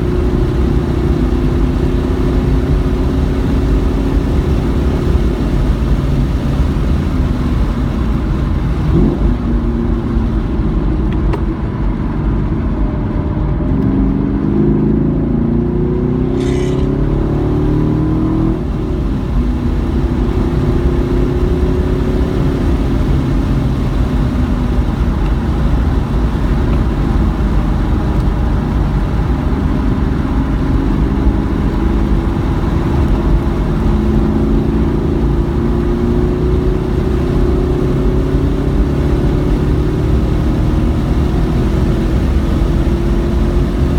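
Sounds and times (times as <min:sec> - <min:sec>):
road and wind rumble: 0:00.0 - 0:43.9
race car engine revving: 0:06.6 - 0:43.9.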